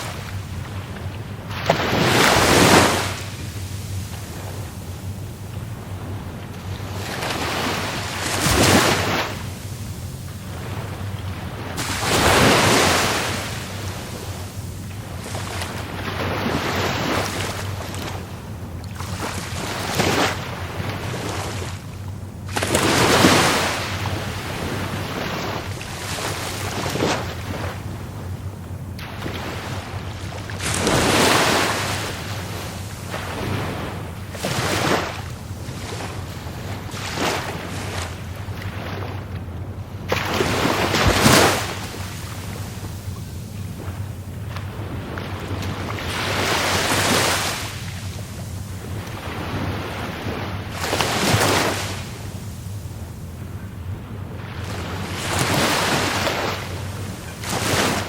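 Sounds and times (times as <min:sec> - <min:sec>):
steady low rumble: 0:00.0 - 0:58.0
surf waves breaking: 0:00.0 - 0:58.0.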